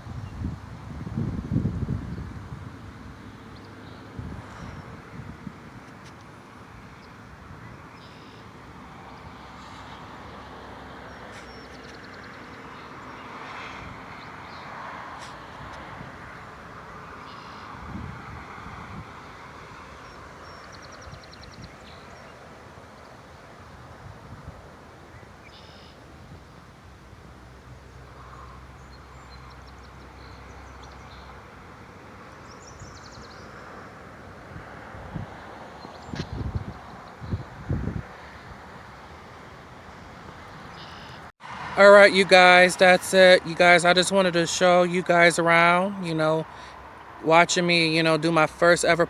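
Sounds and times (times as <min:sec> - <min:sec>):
road traffic noise: 0:00.0 - 0:49.0
vehicle passing: 0:01.8 - 0:25.0, 0:27.2 - 0:49.0.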